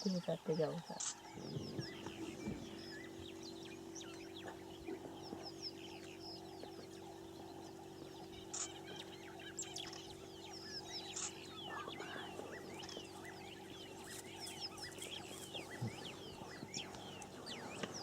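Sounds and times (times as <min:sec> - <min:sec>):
steady low hum: 0:00.0 - 0:18.0
wild birds chirping: 0:00.0 - 0:18.0.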